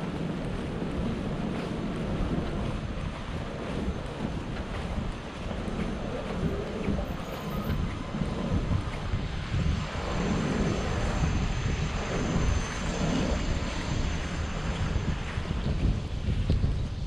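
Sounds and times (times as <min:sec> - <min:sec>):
aircraft engine drone: 0:00.0 - 0:17.0
wind buffeting microphone: 0:00.0 - 0:17.0.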